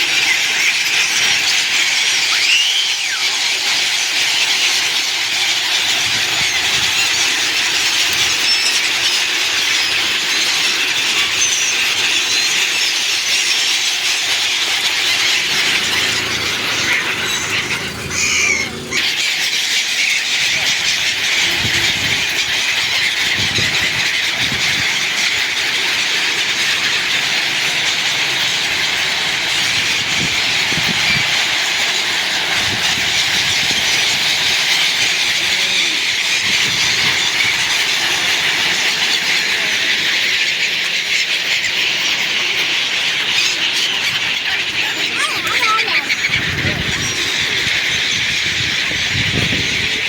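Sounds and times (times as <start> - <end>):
flock of birds chattering: 0.0 - 50.0.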